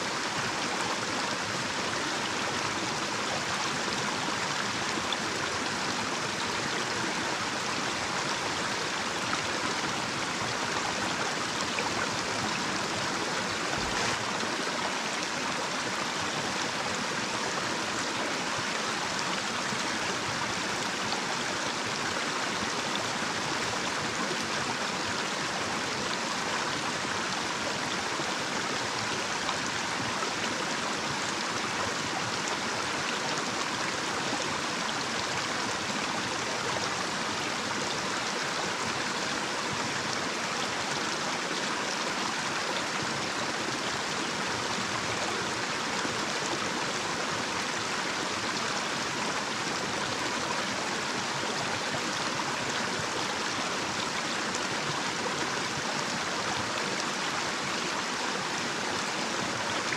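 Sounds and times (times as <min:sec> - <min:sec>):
stream flowing over cascade: 0:00.0 - 0:59.9.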